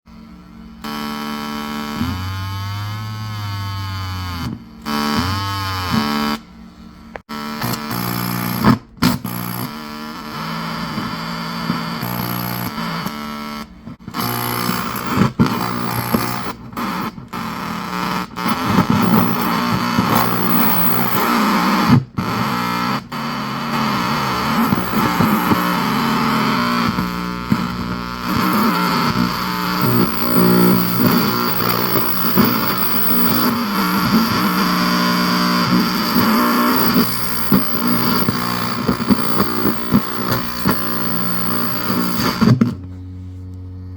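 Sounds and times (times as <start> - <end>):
buzzy distorted electronic noise: 0.1 - 42.8.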